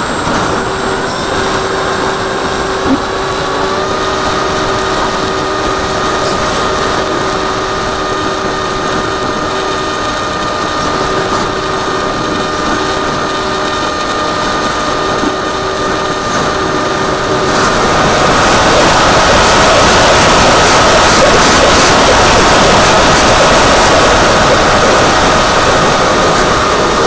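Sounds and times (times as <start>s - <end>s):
electric motor and propeller whining: 0.0s - 27.0s
wind rushing over microphone: 0.0s - 27.0s.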